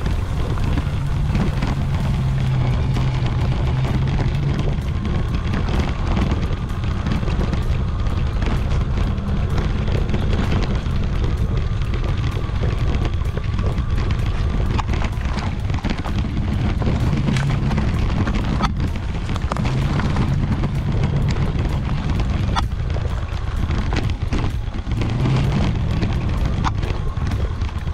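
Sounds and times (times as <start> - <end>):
heavy wind rumble: 0.0 - 27.9.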